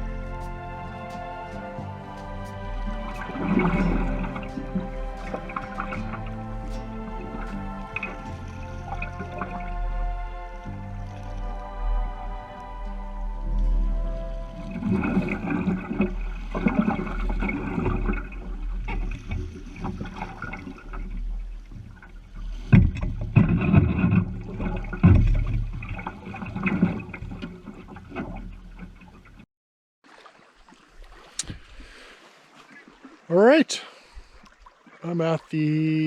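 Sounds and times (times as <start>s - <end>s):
paddle strokes splashing water: 0.0s - 29.4s, 30.0s - 36.0s.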